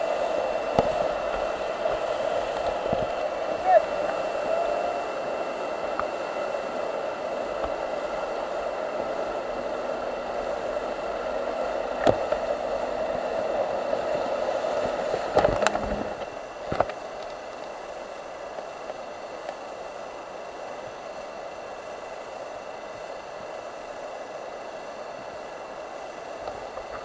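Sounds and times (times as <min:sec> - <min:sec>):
whitewater rapids rushing: 0:00.0 - 0:27.0.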